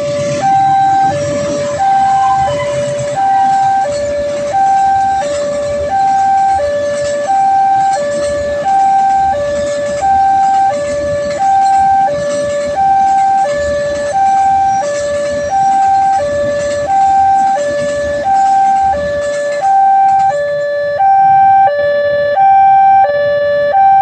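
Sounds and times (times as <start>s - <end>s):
level crossing two-tone siren: 0.0s - 24.0s.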